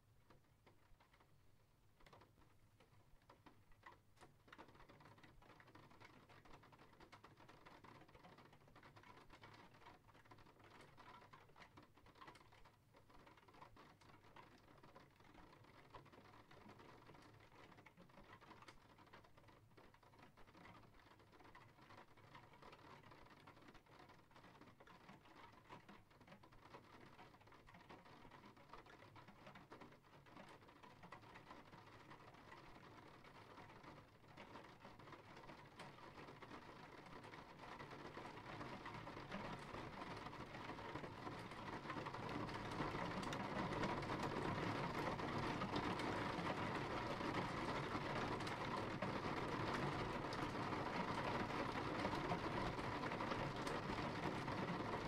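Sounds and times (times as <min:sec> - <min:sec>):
steady rain falling: 0:04.5 - 0:55.0.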